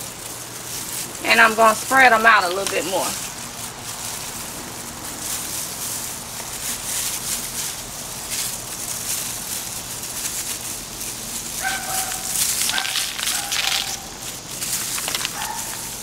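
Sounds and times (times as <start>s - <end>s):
hands rustling loose soil: 0.0s - 16.0s.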